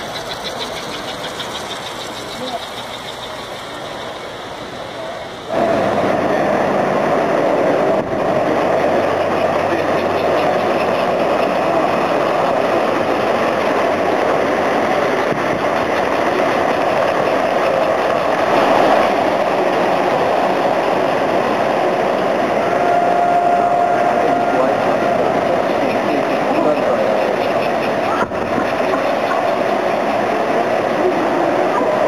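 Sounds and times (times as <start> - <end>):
model train motors humming: 0.0 - 32.0
wheels rolling over track: 0.0 - 32.0.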